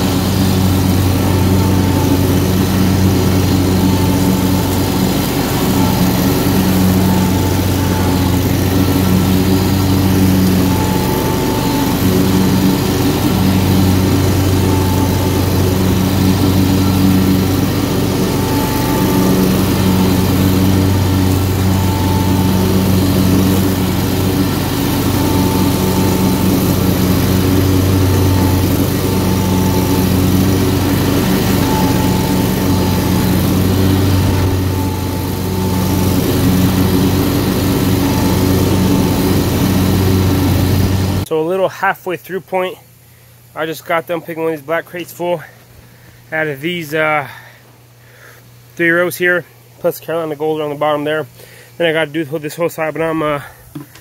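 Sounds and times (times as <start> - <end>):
mower engine cutting grass: 0.0 - 47.6.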